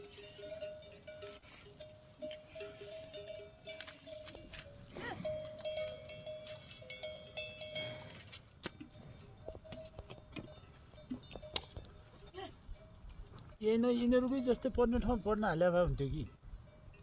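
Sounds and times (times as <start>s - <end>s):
livestock bells ringing: 0.0s - 17.0s.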